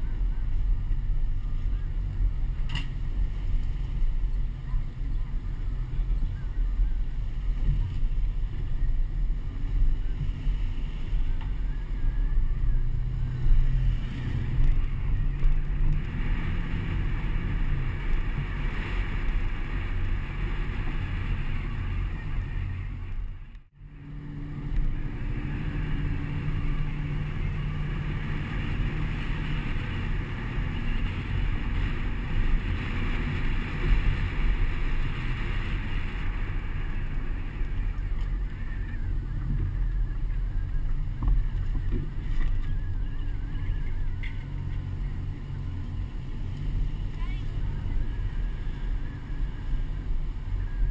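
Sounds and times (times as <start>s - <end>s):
truck engine hum: 0.0s - 50.9s.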